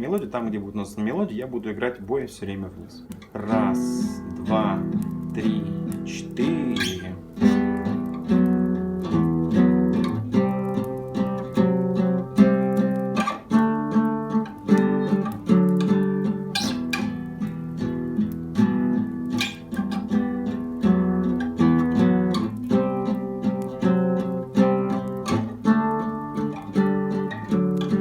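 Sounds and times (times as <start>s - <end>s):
classical guitar playing: 0.0s - 28.0s.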